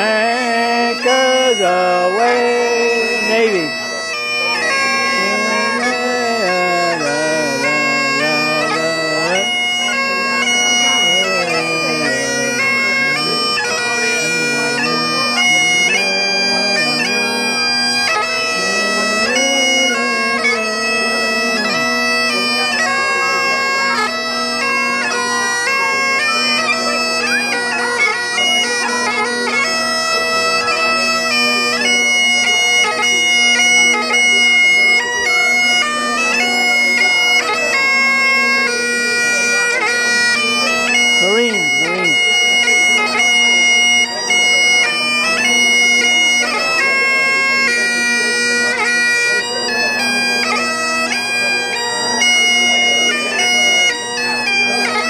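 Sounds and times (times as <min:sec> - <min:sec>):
bagpipe playing: 0:00.0 - 0:55.0.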